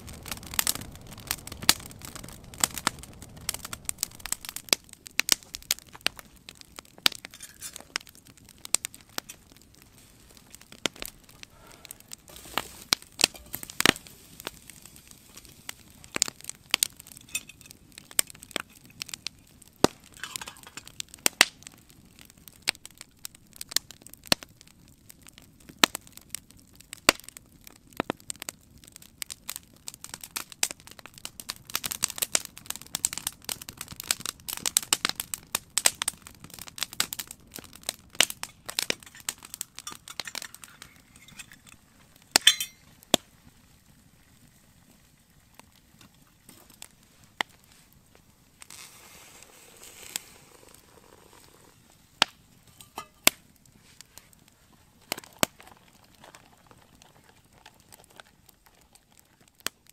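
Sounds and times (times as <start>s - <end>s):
fire hissing: 0.0s - 23.8s, 31.5s - 58.0s
campfire crackling and popping: 0.0s - 59.9s.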